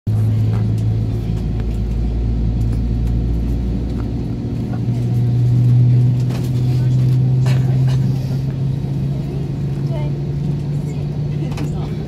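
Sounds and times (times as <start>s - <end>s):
airliner cabin drone: 0.1s - 12.0s.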